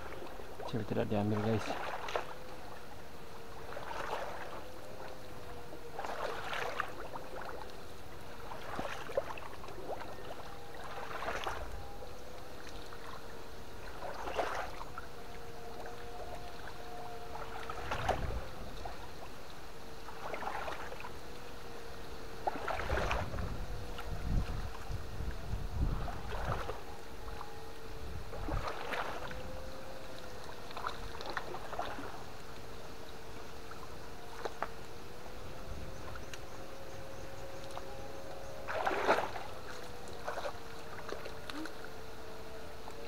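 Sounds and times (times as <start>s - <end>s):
water splashing: 0.0s - 43.0s
wavering inverter whine: 0.0s - 43.0s.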